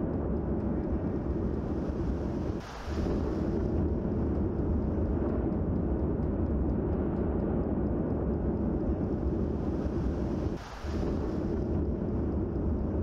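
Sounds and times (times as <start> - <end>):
volcanic eruption roaring: 0.0 - 7.0, 7.6 - 13.0.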